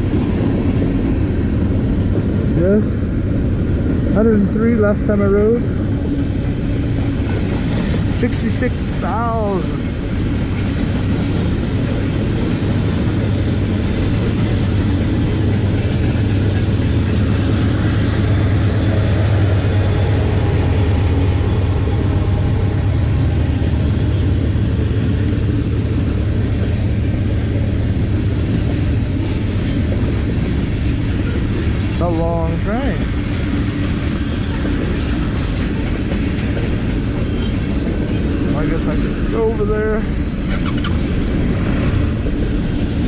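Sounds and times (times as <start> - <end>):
train cars rumbling past: 0.0 - 43.0.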